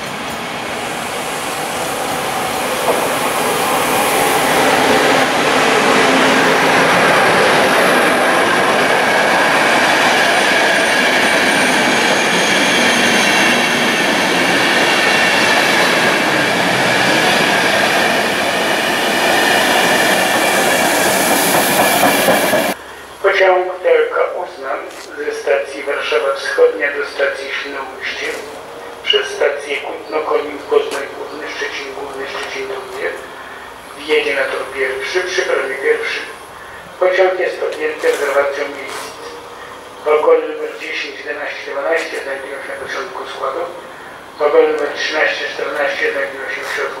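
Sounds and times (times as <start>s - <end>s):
train wheels rolling on rail: 0.0s - 23.1s, 23.9s - 47.0s.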